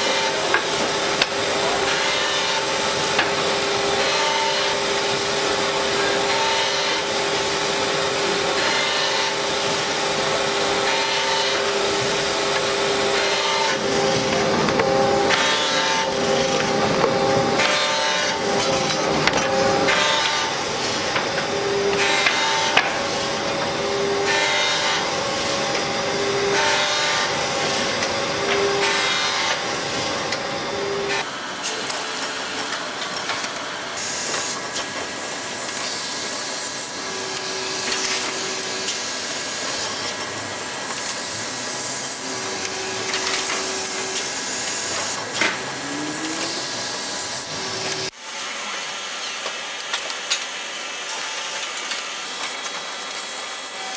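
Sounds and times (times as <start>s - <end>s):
machinery clatter and hiss: 0.0s - 53.9s
steady machine noise: 0.0s - 53.9s.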